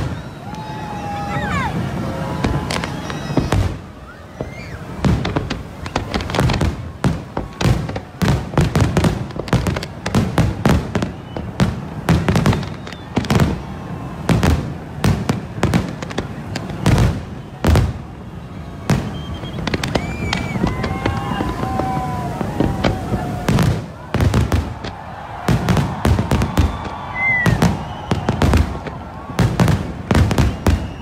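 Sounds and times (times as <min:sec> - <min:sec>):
fireworks bangs: 0:00.0 - 0:31.0.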